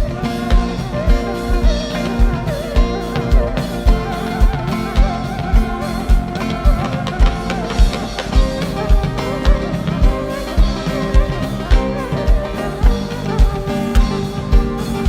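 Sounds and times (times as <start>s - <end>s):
band with guitar and drums: 0.0s - 15.0s
bass drum beat: 0.0s - 15.0s.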